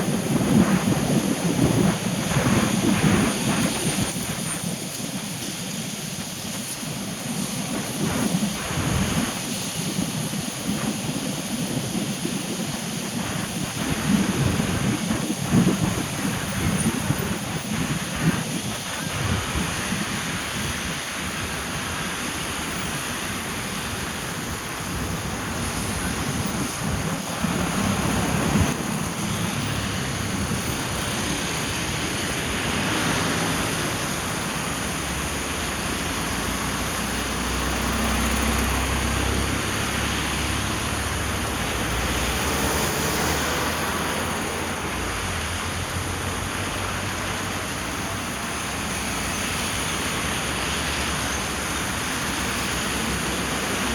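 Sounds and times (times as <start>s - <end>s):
car tyres on wet road: 0.0s - 53.9s
rain: 0.0s - 53.9s.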